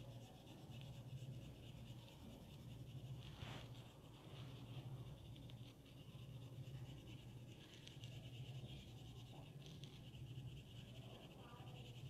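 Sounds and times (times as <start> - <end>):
low steady hum: 0.0 - 12.0
pencil scratching on paper: 0.0 - 12.0.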